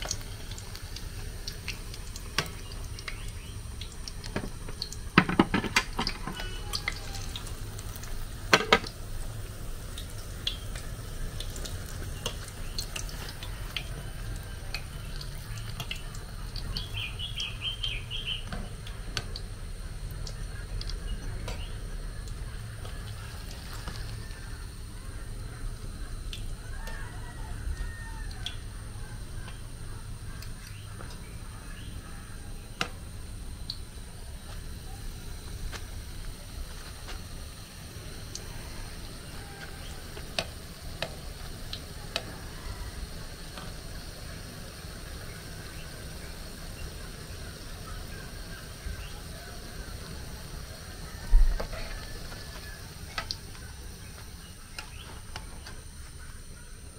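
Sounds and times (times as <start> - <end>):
oil sizzling: 0.0 - 56.9.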